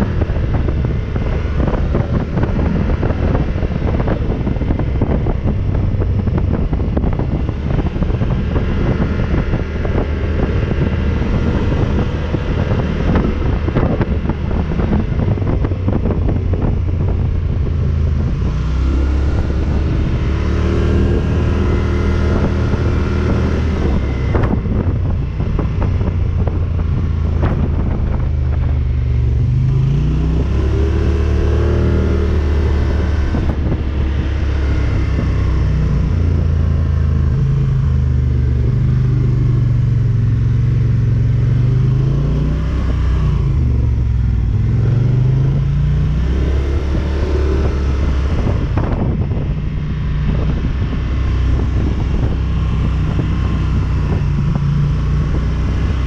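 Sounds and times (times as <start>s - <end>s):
atv engine running: 0.0s - 56.0s
wind buffeting microphone: 0.0s - 56.0s.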